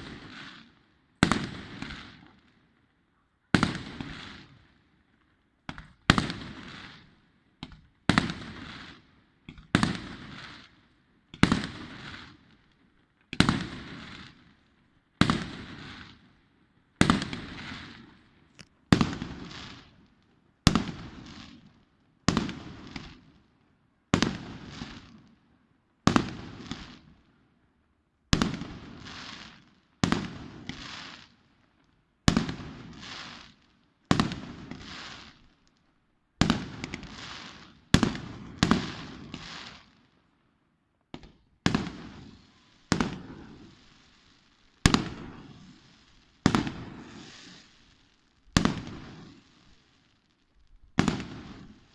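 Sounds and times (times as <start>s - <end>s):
fireworks bursting: 0.0s - 2.6s, 3.5s - 4.8s, 5.7s - 12.7s, 13.3s - 14.6s, 15.2s - 16.3s, 17.0s - 23.4s, 24.2s - 25.3s, 28.3s - 31.4s, 32.3s - 35.8s, 36.4s - 40.2s, 41.1s - 51.9s.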